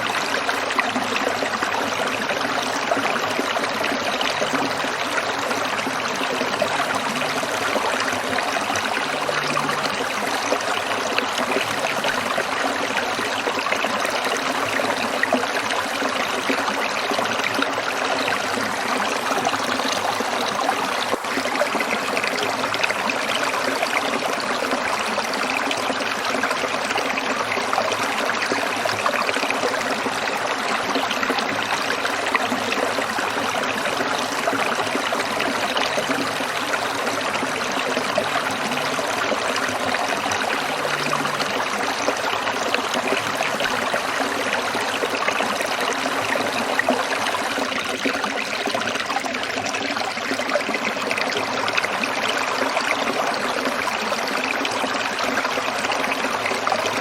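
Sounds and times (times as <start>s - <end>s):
stream water trickling over stones: 0.0s - 57.0s.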